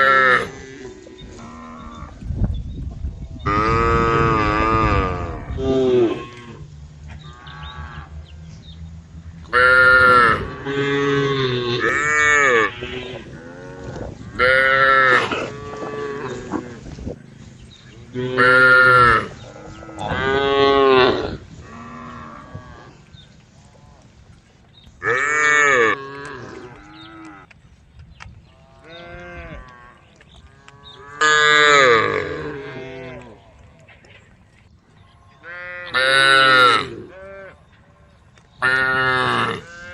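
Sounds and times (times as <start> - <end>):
cows mooing: 0.0 - 2.2, 3.4 - 8.4, 9.4 - 24.1, 25.0 - 27.5, 28.6 - 33.5, 35.0 - 39.9.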